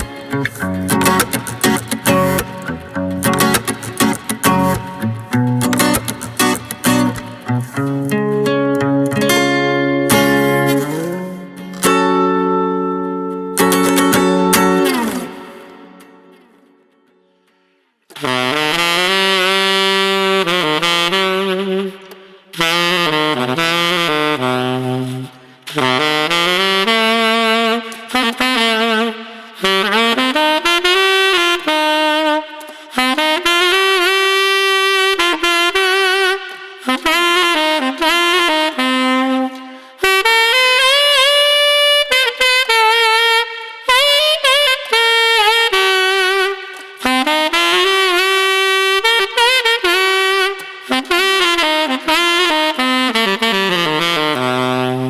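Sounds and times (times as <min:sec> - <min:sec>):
tenor saxophone melody: 0:00.0 - 0:16.7, 0:18.1 - 0:55.0.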